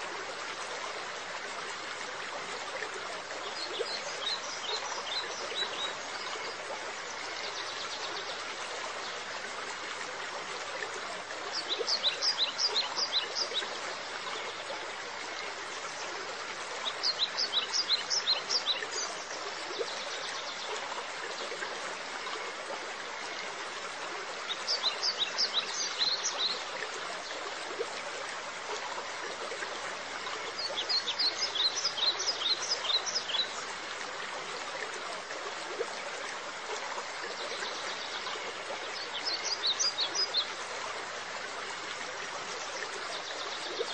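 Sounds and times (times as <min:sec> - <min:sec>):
stream running water: 0:00.0 - 0:43.9.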